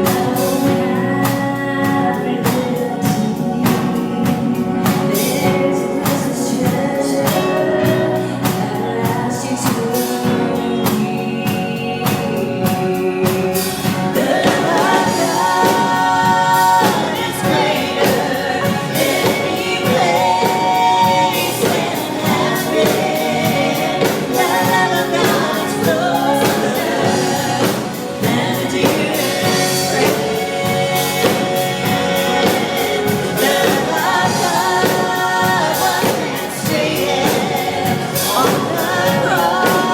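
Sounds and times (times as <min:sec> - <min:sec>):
piano accompaniment: 0:00.0 - 0:39.9
vocal group singing gospel: 0:00.0 - 0:39.9.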